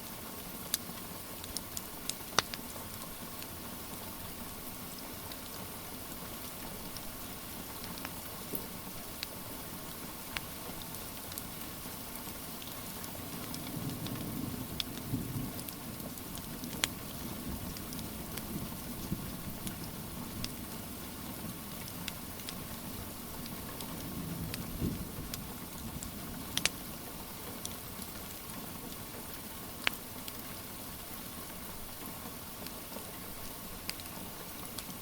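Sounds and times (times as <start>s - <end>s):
steady rain hiss: 0.0s - 35.0s
wood fire crackling: 0.3s - 35.0s.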